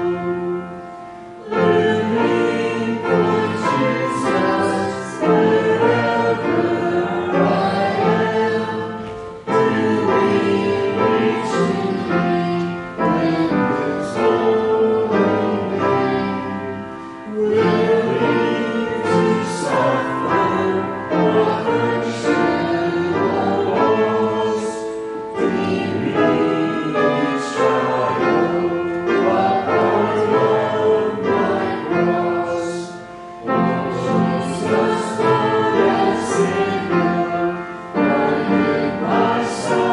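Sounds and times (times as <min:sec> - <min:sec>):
choir singing a hymn: 0:00.0 - 0:39.9
musical accompaniment: 0:00.0 - 0:39.9.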